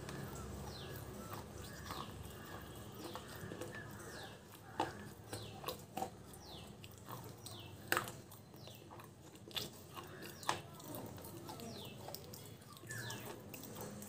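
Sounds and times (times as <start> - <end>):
bird chirping: 0.0 - 9.1, 11.5 - 13.9
person chewing crunchy food: 0.0 - 14.0.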